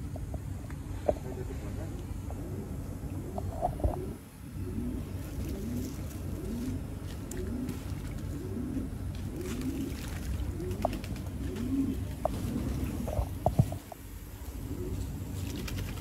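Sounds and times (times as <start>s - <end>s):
pigeon cooing: 1.0s - 16.0s.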